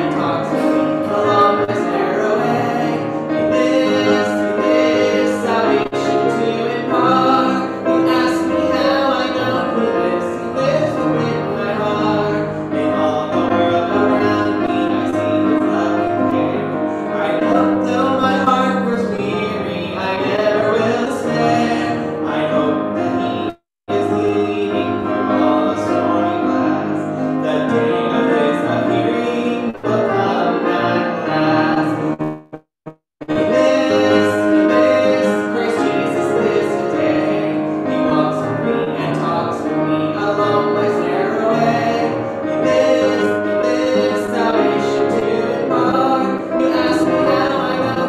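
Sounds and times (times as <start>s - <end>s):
keyboard music: 0.0s - 48.0s.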